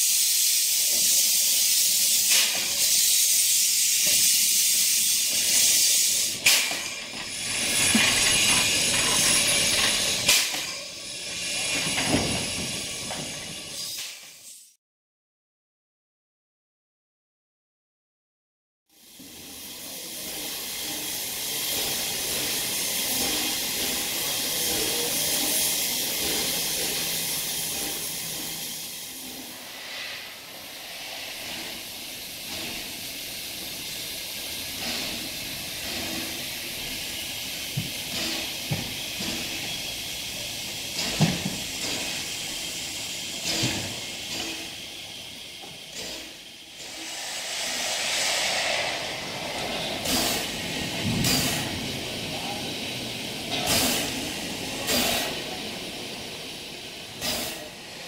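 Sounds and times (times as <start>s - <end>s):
steam hissing from locomotives: 0.0s - 14.8s, 18.9s - 58.0s.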